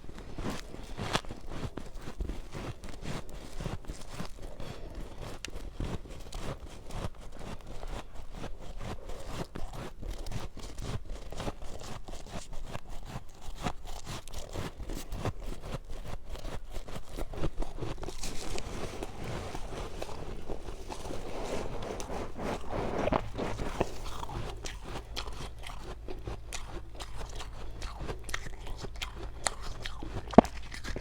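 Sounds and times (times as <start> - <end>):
chewing crunchy frost: 0.0 - 31.0.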